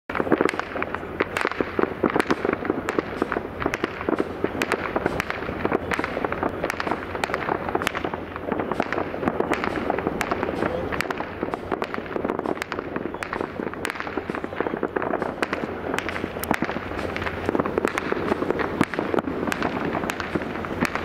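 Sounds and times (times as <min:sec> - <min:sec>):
fireworks bangs and crackles: 0:00.1 - 0:21.0.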